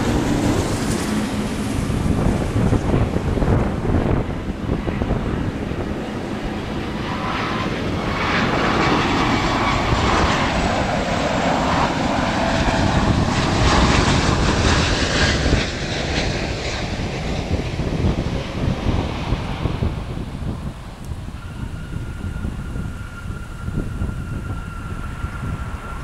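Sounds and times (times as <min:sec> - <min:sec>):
airliner jet engines passing: 0:00.0 - 0:26.0
wind buffeting microphone: 0:00.0 - 0:26.0.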